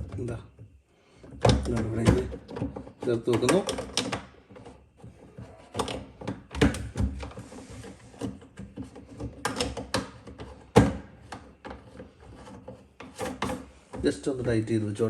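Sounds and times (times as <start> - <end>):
pipe fittings knocking and clicking: 0.0 - 14.6.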